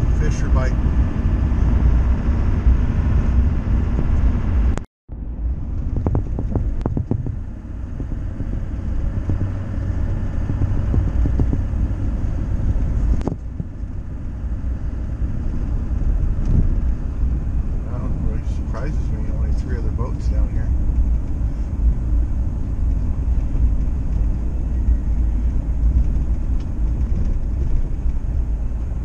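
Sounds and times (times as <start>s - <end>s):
vehicle engine and road noise: 0.0s - 29.0s.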